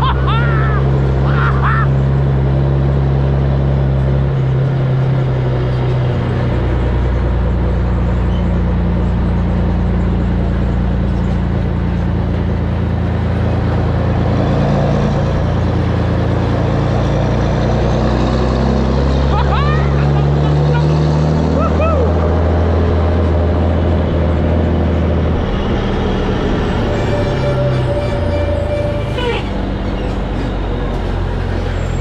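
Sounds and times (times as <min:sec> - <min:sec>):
truck diesel engine with open exhaust: 0:00.0 - 0:32.0.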